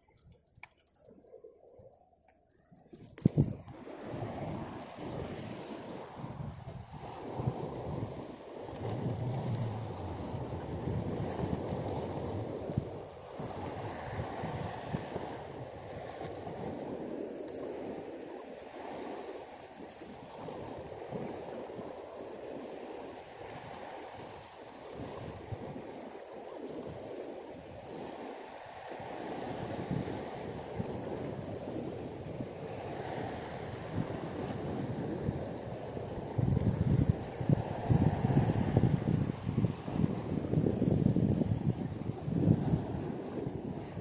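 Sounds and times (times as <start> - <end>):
high-pitched insect chirring: 0.0 - 14.7, 15.4 - 44.0
choppy sea water at shoreline: 0.0 - 44.0
wind: 0.0 - 44.0
rumbling wind noise on microphone: 3.0 - 44.0.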